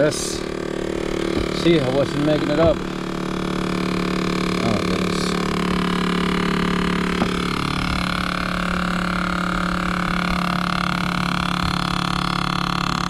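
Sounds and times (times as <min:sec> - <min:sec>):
mechanical hum and whir: 0:00.0 - 0:13.0.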